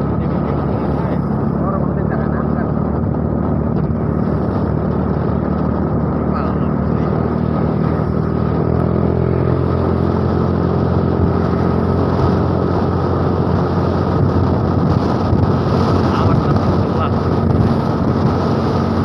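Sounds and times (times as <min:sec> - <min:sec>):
scooter engine drone: 0:00.0 - 0:19.0
wind and road noise: 0:00.0 - 0:19.0.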